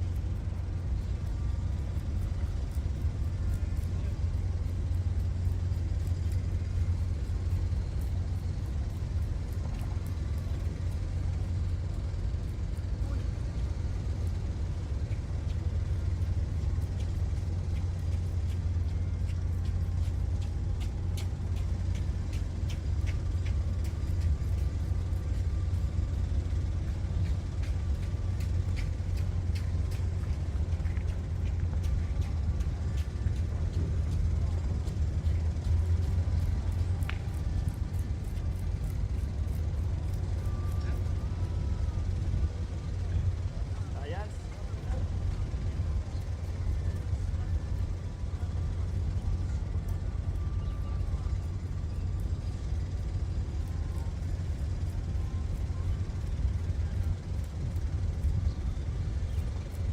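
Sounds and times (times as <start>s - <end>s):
engine droning: 0.0s - 59.9s.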